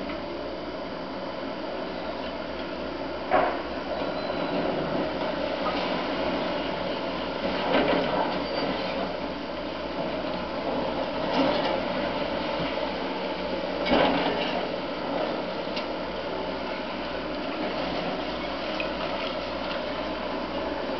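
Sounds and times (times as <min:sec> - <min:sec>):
excavator engine: 0:00.0 - 0:20.9.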